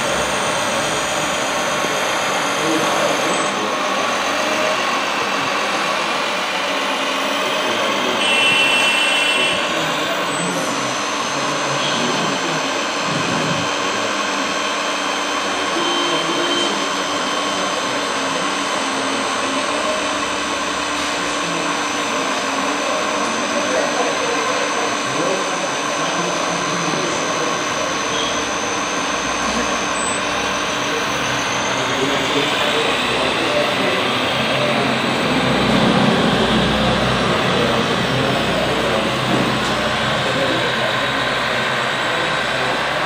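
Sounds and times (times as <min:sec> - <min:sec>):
electric motors and hydraulics whirring: 0:00.0 - 0:43.0
faint voices: 0:00.0 - 0:43.0.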